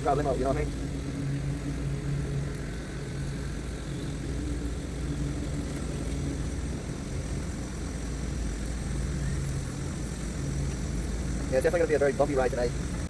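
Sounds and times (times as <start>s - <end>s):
engine idling hum: 0.0s - 13.0s
wind rumbling on microphone: 0.0s - 13.0s.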